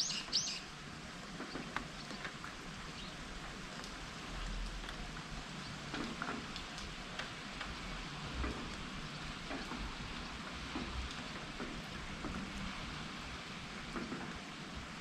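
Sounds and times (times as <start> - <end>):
close raindrop ticks: 0.0 - 15.0
steady rain falling: 0.0 - 15.0.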